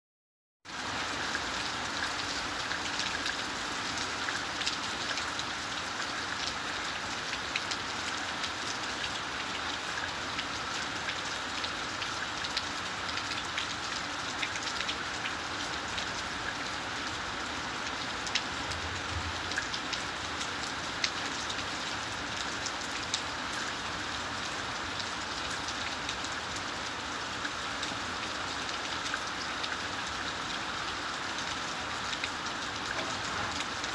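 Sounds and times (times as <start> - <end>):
steady rain: 0.6 - 33.9.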